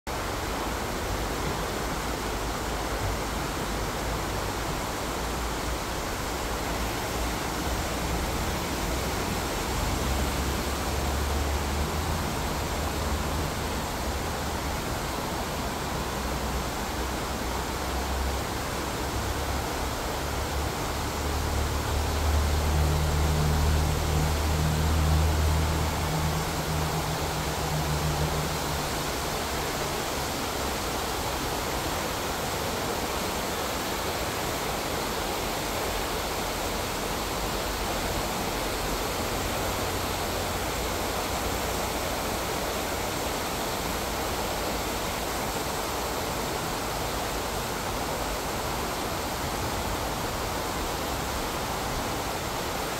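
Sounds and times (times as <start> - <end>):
stream flowing over rocks: 0.1 - 52.9.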